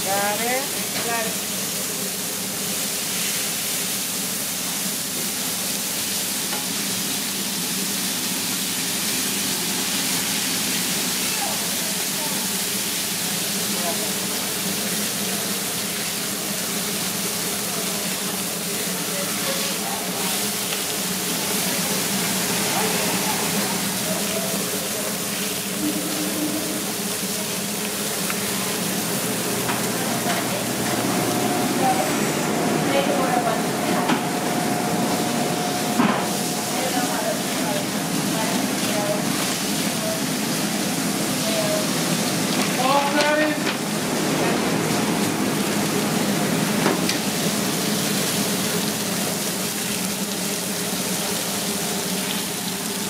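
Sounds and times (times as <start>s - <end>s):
burger patties sizzling on griddle: 0.0s - 53.0s.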